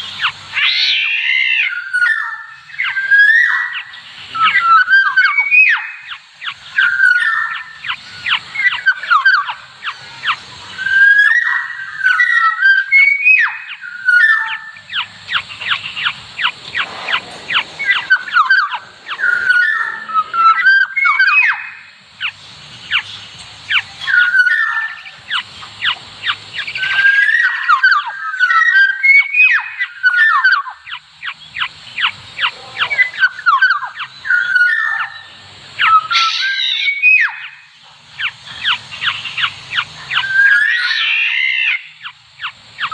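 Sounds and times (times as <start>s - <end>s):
harsh rasping bird chatter: 0.0s - 42.9s
orioles whistling calls: 0.0s - 42.9s.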